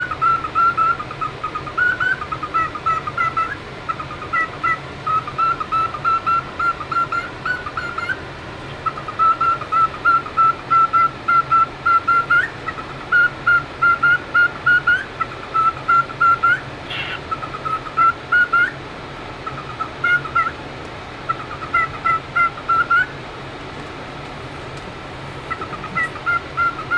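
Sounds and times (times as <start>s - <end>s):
cockatiel chirping: 0.0s - 8.2s, 8.8s - 18.8s, 19.4s - 20.6s, 21.3s - 23.2s, 25.5s - 26.9s.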